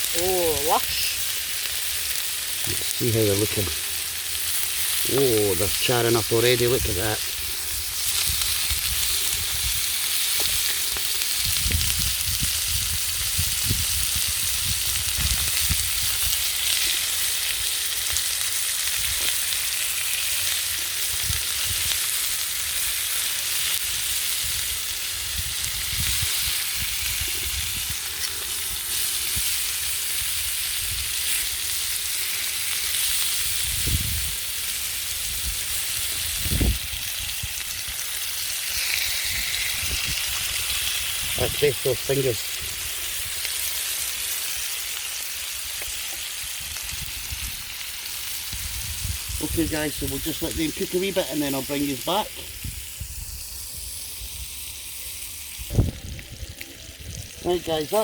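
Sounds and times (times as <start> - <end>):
pork sizzling in a pan: 0.0 - 58.0.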